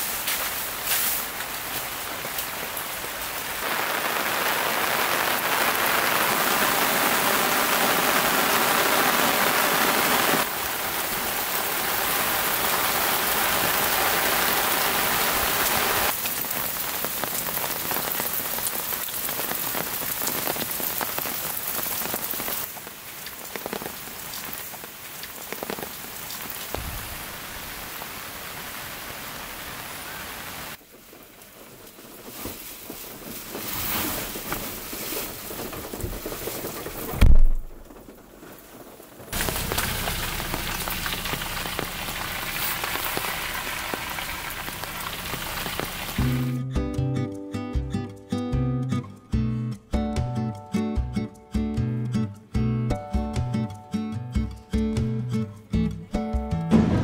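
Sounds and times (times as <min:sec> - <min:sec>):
raindrops hitting a surface: 0:00.0 - 0:46.6
rain falling: 0:00.0 - 0:46.8, 0:52.8 - 0:57.0.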